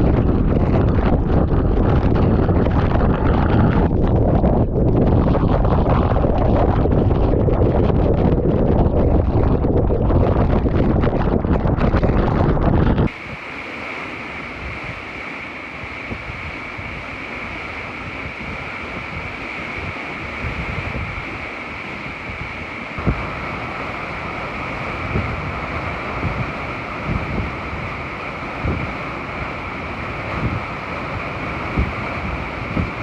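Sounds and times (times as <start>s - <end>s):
gusts thumping microphone: 0.0s - 33.0s
wind buffeting microphone: 0.0s - 33.0s
wind whistling: 0.0s - 33.0s
wind-driven rain hissing: 0.0s - 33.0s.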